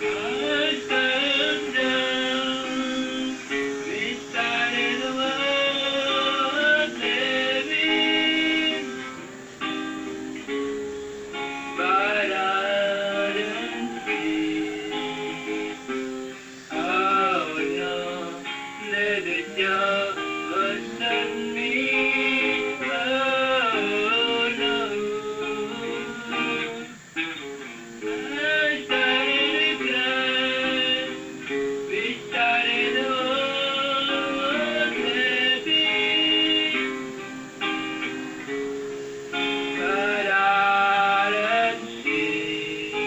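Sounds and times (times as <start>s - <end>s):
man singing: 0.0s - 10.2s, 11.4s - 43.0s
acoustic guitar: 0.0s - 43.0s.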